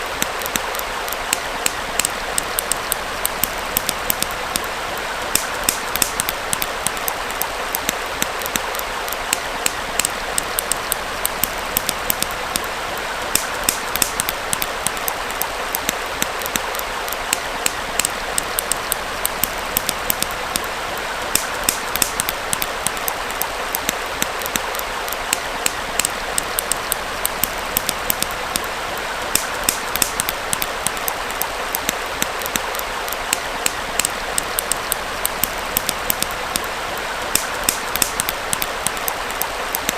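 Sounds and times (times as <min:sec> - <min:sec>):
campfire crackling and popping: 0:00.0 - 0:39.9
small stream rushing: 0:00.0 - 0:39.9.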